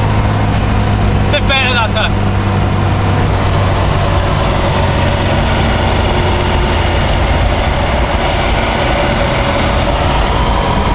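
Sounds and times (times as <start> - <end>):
car engine running at speed: 0.0 - 10.9
wind and road noise: 0.0 - 10.9.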